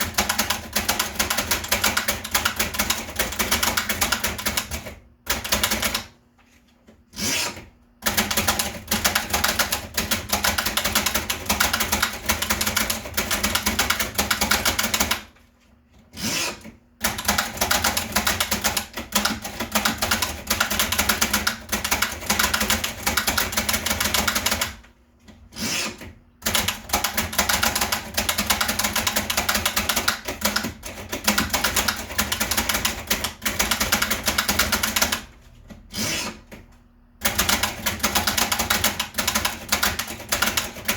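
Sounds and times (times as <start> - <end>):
typewriter keystrokes clacking: 0.0 - 6.1, 8.0 - 15.3, 17.0 - 24.8, 26.4 - 35.3, 37.2 - 40.9.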